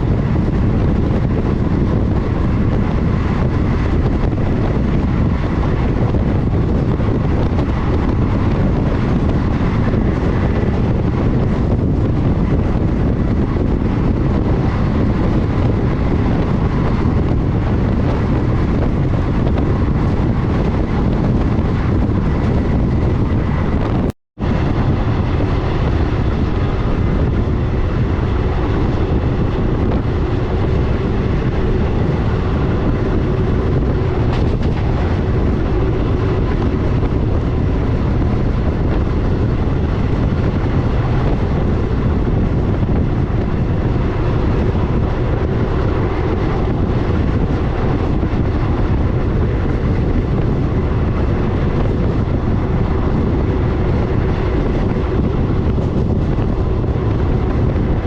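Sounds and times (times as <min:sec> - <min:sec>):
passenger train running on track: 0:00.0 - 0:58.0.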